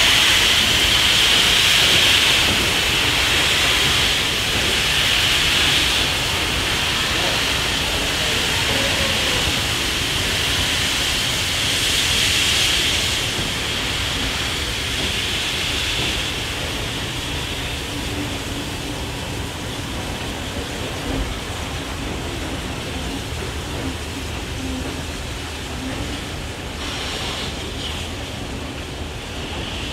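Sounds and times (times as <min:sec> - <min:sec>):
steam locomotive hissing: 0:00.0 - 0:29.9.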